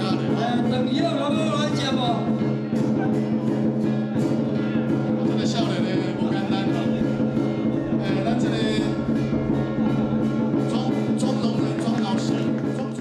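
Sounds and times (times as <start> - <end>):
percussion strikes: 0.0 - 13.0
music with sustained tones: 2.4 - 13.0.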